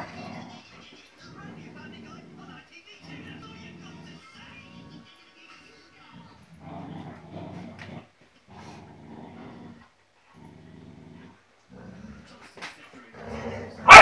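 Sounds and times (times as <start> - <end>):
puppies growling: 0.0 - 5.1, 6.1 - 12.4, 13.1 - 14.0.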